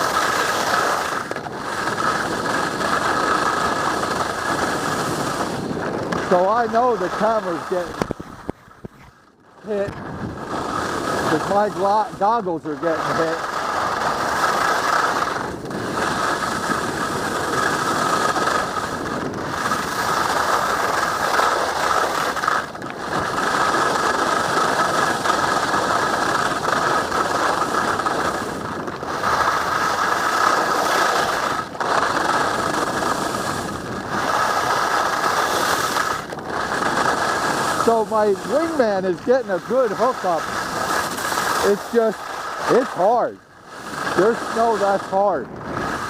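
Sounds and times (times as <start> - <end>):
skis scraping on hard snow: 0.0 - 46.0.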